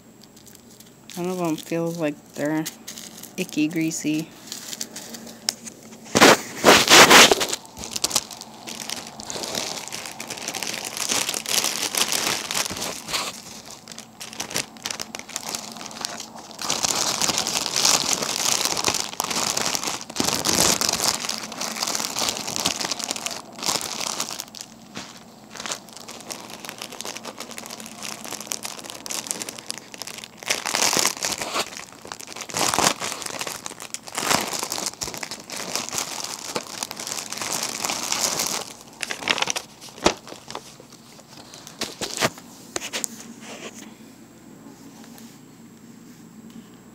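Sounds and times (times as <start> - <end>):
plastic bags crinkling: 0.0 - 43.8.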